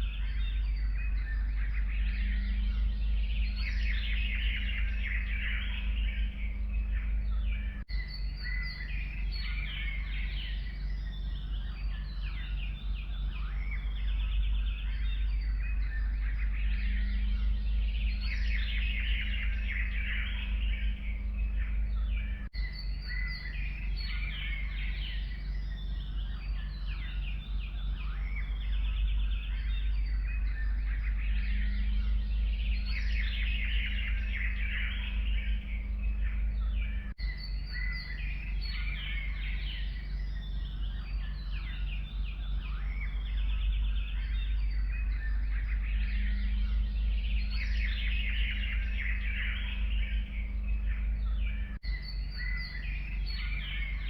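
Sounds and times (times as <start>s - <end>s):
songbirds chirping and singing: 0.0s - 54.0s
steady low rumble: 0.0s - 54.0s.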